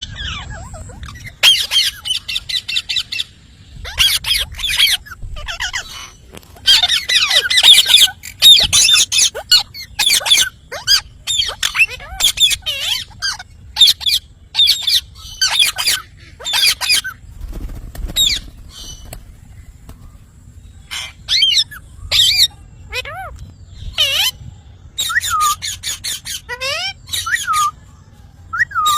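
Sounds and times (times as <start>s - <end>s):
parrot squawking: 0.0s - 17.2s, 20.9s - 24.4s, 25.0s - 27.7s.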